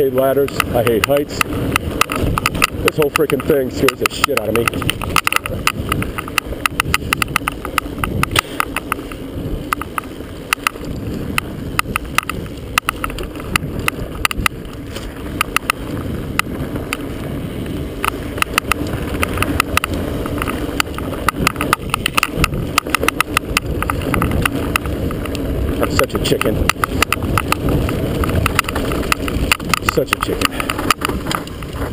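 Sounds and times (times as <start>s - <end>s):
camera rattling against mount: 0.0s - 31.9s
mountain bike rolling on dirt: 0.0s - 31.9s.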